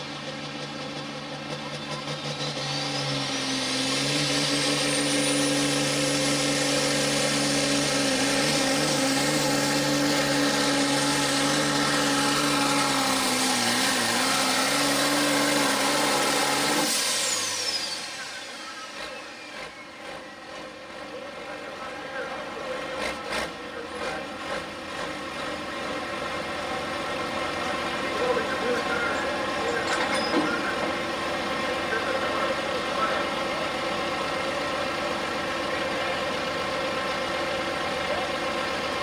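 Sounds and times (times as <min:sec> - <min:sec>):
diesel tractor engine at full throttle: 0:00.0 - 0:39.0.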